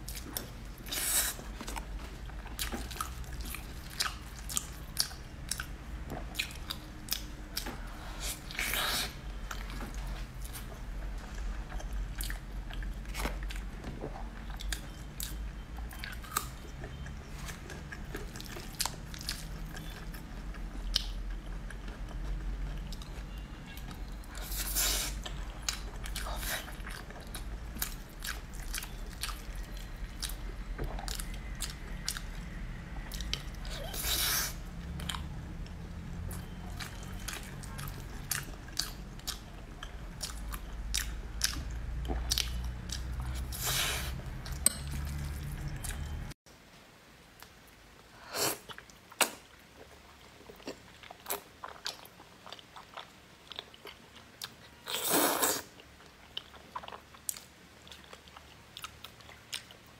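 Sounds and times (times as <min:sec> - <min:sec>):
low background hum: 0:00.0 - 0:59.9.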